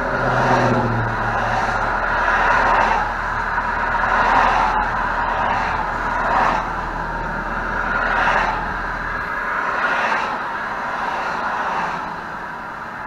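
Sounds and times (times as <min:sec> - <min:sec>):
highway traffic rushing past: 0:00.0 - 0:13.0.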